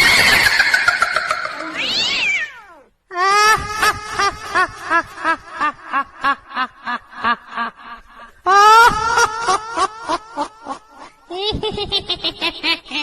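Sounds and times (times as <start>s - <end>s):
high-pitched voice laughing: 0.0s - 13.0s.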